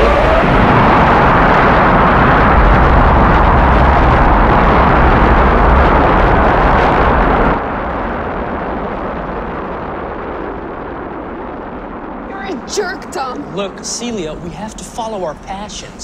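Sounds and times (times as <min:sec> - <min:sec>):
rocket engine rumble: 0:00.0 - 0:16.0.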